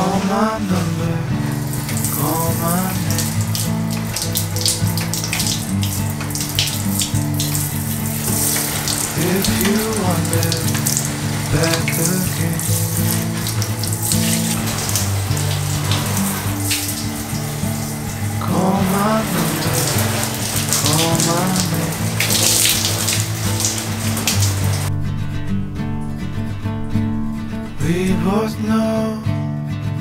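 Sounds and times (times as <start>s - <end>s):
water spraying onto leaves: 0.0s - 24.9s.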